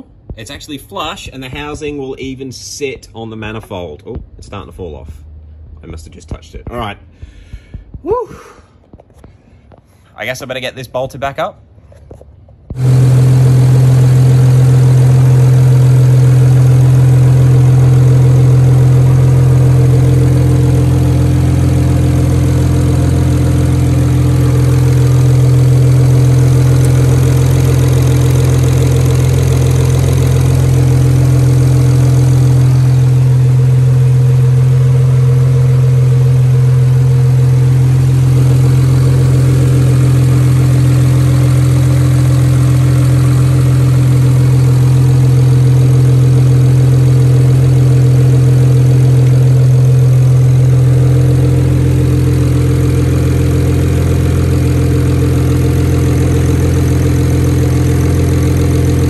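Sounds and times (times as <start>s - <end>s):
car engine idling: 0.0s - 9.7s, 12.4s - 59.0s.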